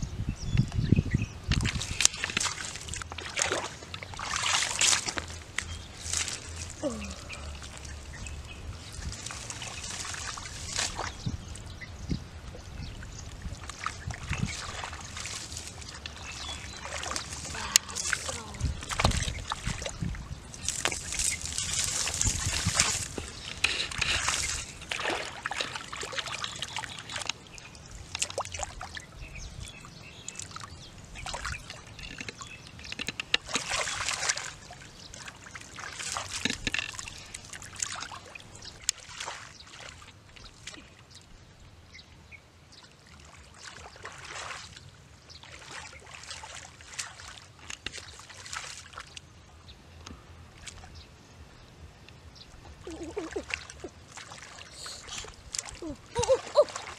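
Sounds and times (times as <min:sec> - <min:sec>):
shallow water splashing: 0:01.5 - 0:11.8, 0:12.4 - 0:41.3, 0:42.8 - 0:49.6, 0:52.6 - 0:56.9.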